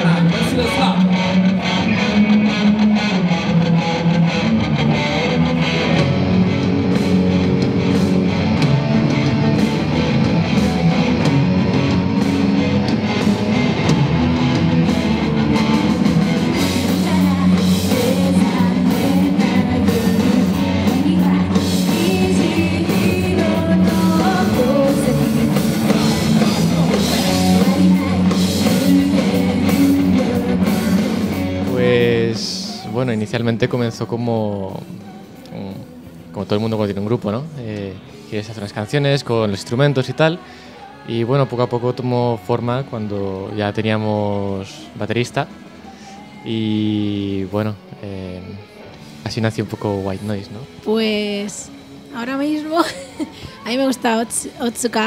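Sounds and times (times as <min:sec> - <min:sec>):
rock song with singing: 0:00.0 - 0:55.0.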